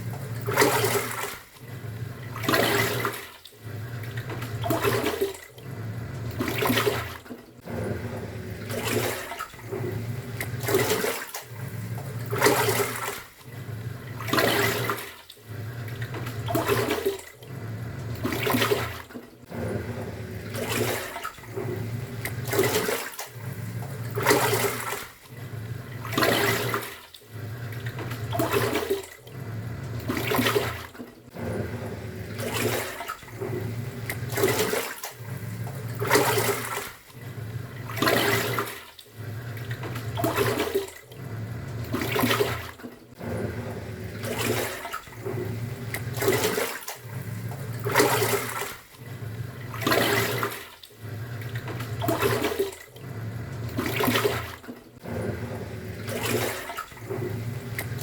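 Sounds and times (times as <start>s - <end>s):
washing machine motor humming: 0.0s - 58.0s
water sloshing: 0.0s - 58.0s.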